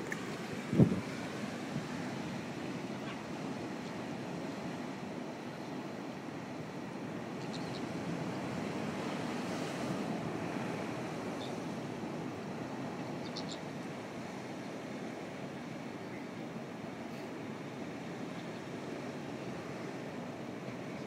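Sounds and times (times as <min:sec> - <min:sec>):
ocean surf washing: 0:00.0 - 0:21.0.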